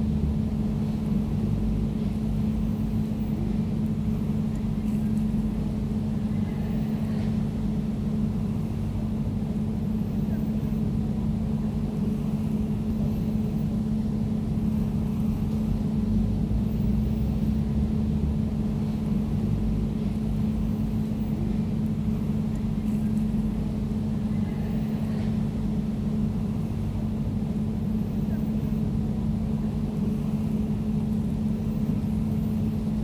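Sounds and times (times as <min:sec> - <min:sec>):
air conditioner humming: 0:00.0 - 0:33.0.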